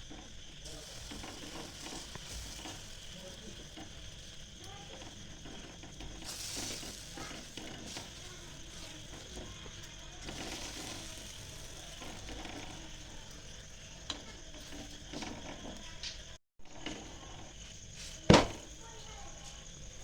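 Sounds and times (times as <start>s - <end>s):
flatbread sizzling on griddle: 0.0s - 20.0s
small knocks and scrapes: 0.1s - 18.8s.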